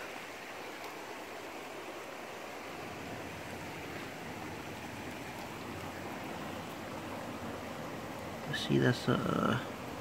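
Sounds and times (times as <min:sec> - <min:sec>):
lake water rushing on rocky shore: 0:00.0 - 0:10.0.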